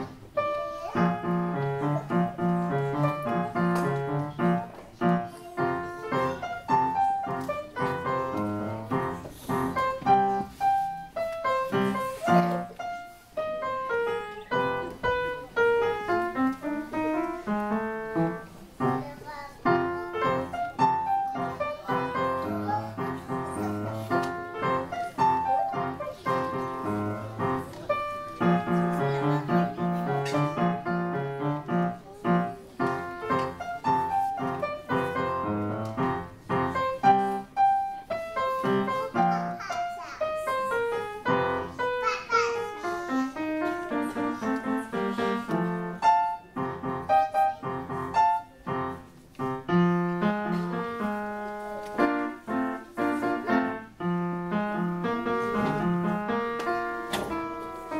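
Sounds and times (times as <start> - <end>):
solo piano: 0.0 - 57.9.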